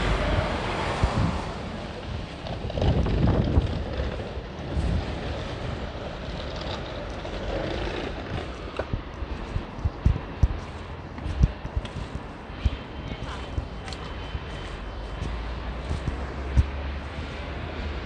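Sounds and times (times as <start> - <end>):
passing traffic: 0.0 - 18.0
wind on microphone: 0.0 - 18.0.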